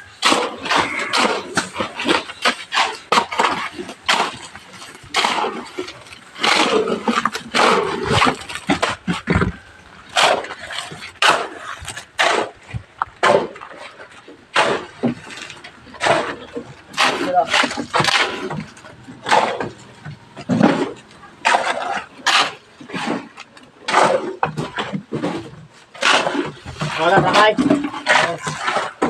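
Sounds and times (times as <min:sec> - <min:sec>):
construction knocks and bangs: 0:00.0 - 0:29.0.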